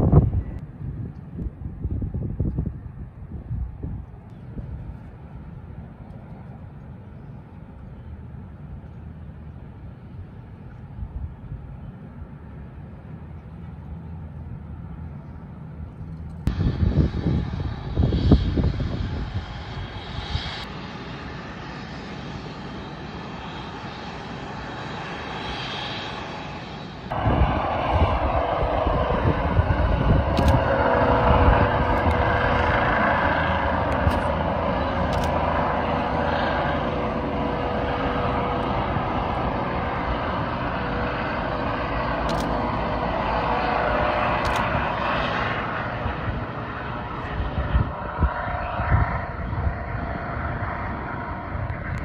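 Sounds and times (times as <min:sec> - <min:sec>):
helicopter turbines and rotor: 0:00.0 - 0:52.0
steady turbine whine: 0:00.0 - 0:52.0.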